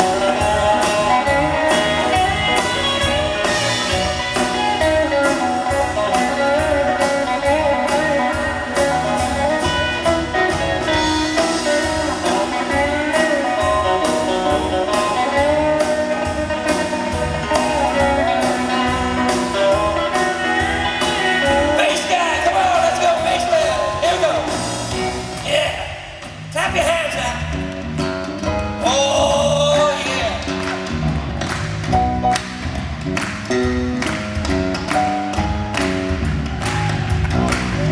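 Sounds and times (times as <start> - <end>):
band playing instrumental: 0.0 - 37.9
guitar: 0.0 - 37.9
steady drum beat: 0.0 - 37.9.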